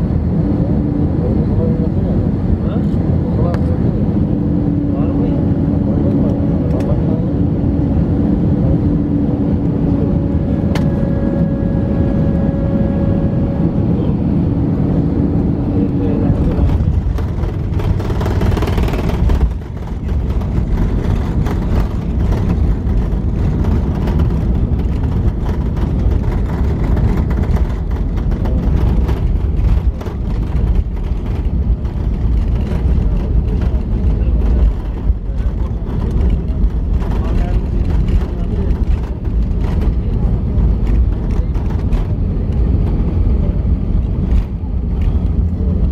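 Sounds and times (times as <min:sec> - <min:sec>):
rumble of engines and wheels: 0:00.0 - 0:45.9
surge of louder engine noise: 0:00.0 - 0:45.9.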